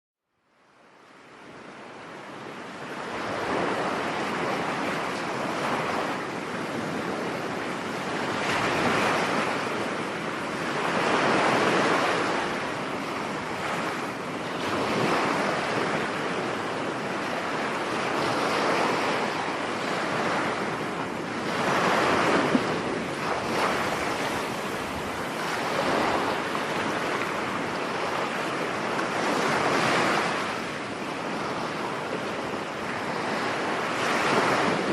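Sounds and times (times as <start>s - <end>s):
rough surf breaking on beach: 1.3s - 34.9s.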